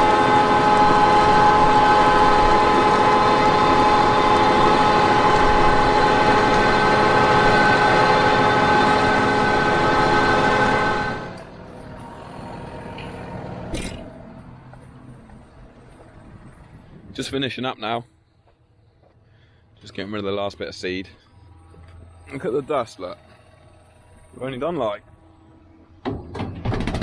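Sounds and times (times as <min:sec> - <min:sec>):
tractor drone with whine: 0:00.0 - 0:27.0.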